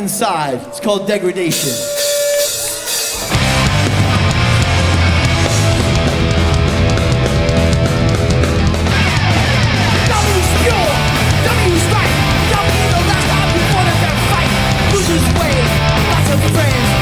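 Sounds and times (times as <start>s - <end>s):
loud fast punk band: 0.0s - 17.0s.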